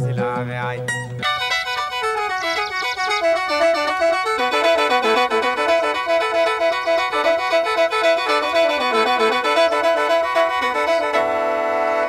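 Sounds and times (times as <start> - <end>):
mouth organ melody over drone: 0.0 - 12.0.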